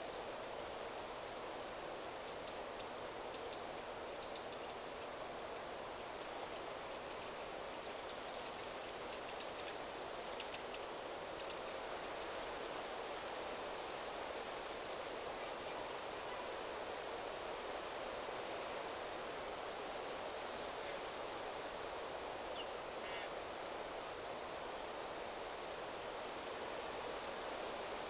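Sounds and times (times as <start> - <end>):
wind rustling trees: 0.0 - 28.0.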